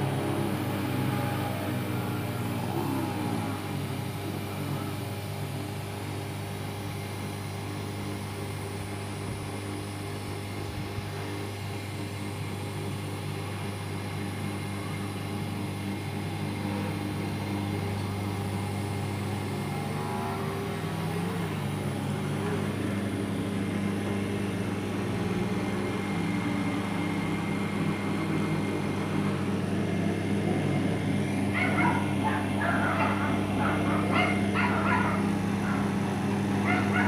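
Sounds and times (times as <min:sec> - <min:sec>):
vacuum pump humming: 0:00.0 - 0:37.0.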